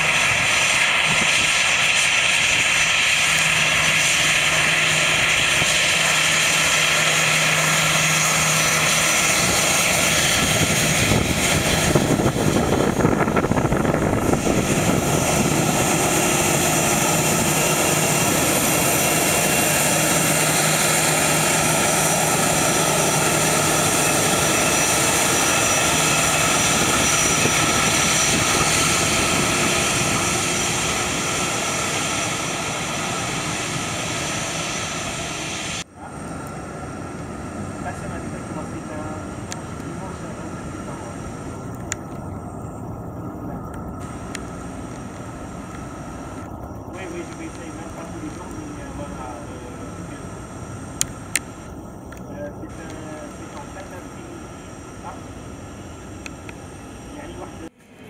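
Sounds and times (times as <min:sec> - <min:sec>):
jet engines roaring at takeoff: 0:00.0 - 0:58.0.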